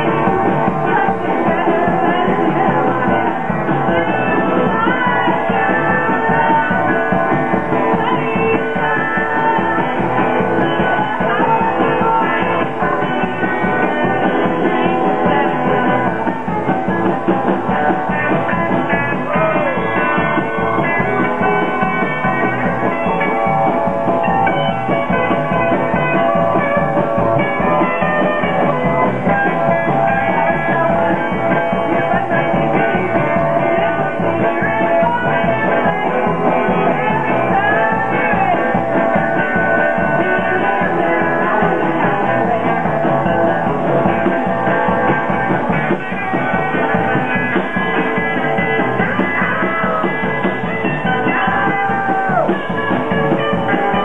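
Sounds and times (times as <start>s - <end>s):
drum kit beat: 0.0s - 54.0s
electric guitars: 0.0s - 54.0s.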